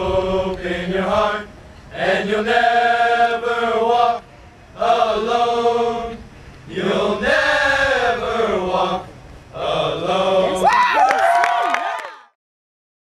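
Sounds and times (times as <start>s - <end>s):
team singing in unison: 0.0s - 10.8s.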